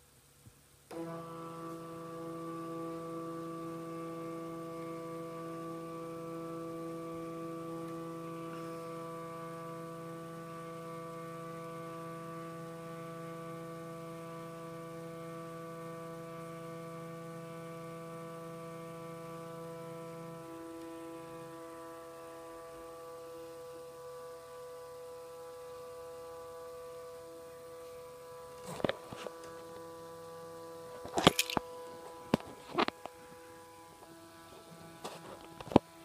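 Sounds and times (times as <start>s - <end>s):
printer motor humming: 0.9s - 36.0s.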